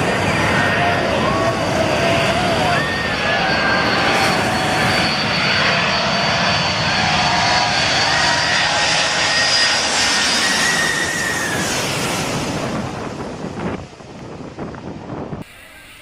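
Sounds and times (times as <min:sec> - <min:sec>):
airplane engine roar: 0:00.0 - 0:16.0
high engine whine: 0:00.0 - 0:16.0.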